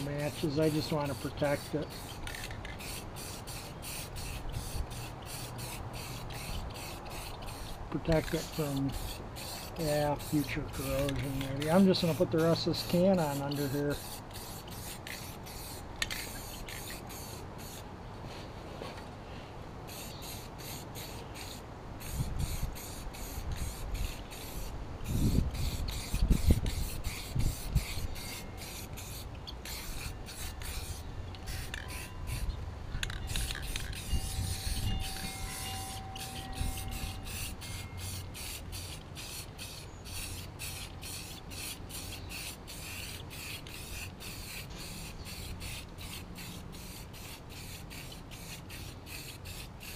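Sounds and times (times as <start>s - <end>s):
spray paint can hissing: 0.0s - 17.8s, 19.9s - 49.9s.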